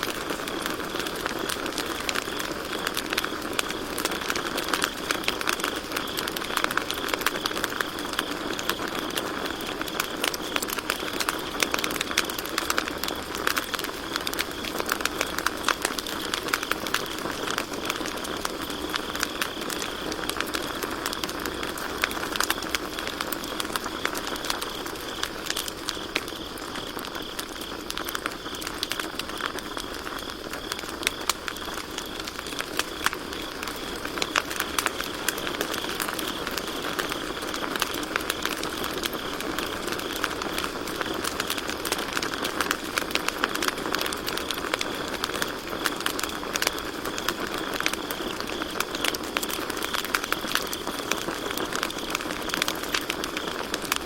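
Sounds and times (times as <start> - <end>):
campfire crackling: 0.0 - 54.0
crickets chirping: 0.0 - 54.0.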